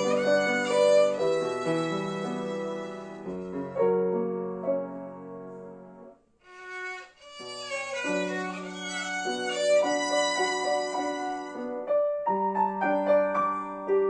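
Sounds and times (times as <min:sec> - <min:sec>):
violin melody: 0:00.0 - 0:04.7, 0:06.4 - 0:14.0
piano accompaniment: 0:00.0 - 0:14.0.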